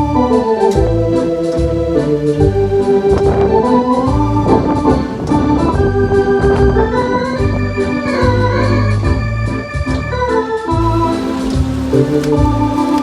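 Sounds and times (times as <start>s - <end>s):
organ playing slow tune: 0.0s - 13.0s.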